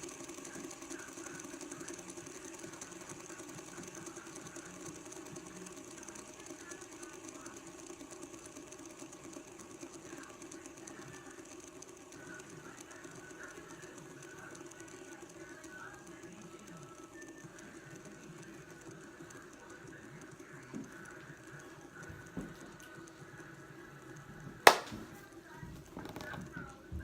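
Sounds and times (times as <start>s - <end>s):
fidget spinner whirring on table: 0.0s - 27.0s.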